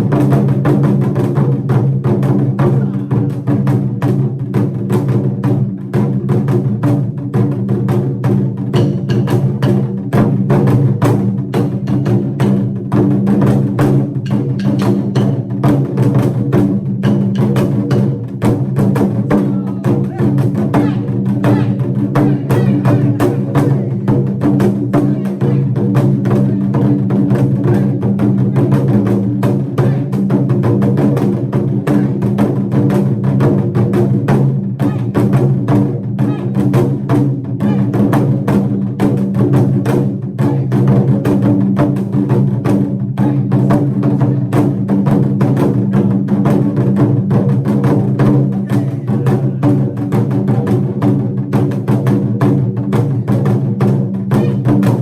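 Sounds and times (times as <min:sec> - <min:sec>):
drum beaten with sticks: 0:00.0 - 0:55.0.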